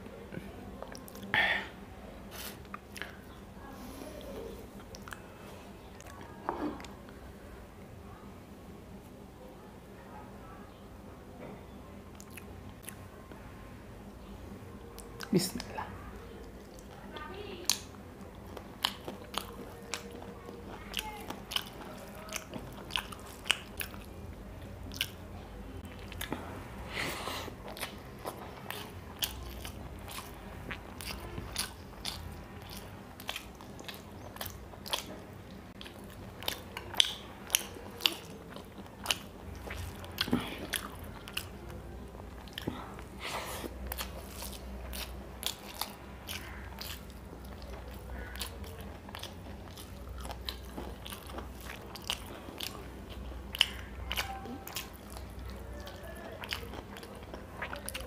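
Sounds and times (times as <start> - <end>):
low steady hum: 0.0 - 58.0
man chewing with wet smacks: 0.3 - 1.6, 2.3 - 3.4, 4.2 - 7.2, 12.1 - 13.4, 14.8 - 26.6, 27.3 - 58.0.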